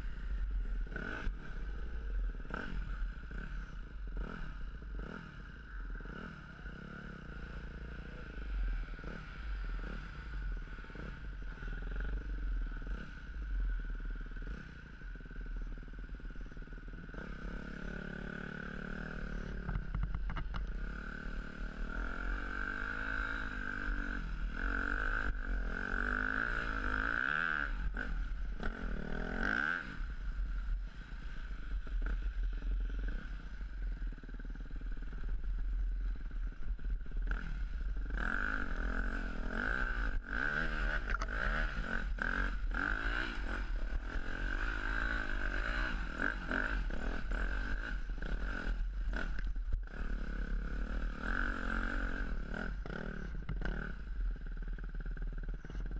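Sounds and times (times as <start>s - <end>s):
dirt bike engine revving: 0.0s - 15.9s, 16.7s - 55.6s.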